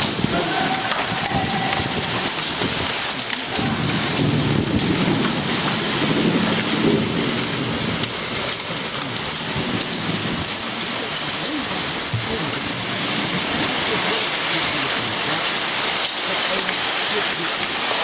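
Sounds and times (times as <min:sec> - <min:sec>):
hailstones ticking on pavement: 0:00.0 - 0:18.0
heavy rain hissing: 0:00.0 - 0:18.0.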